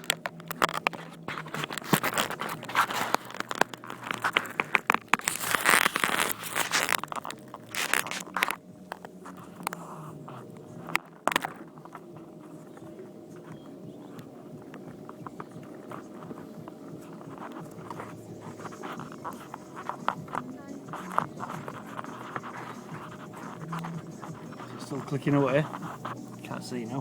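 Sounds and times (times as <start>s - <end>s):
microphone handling noise: 0.0s - 27.0s.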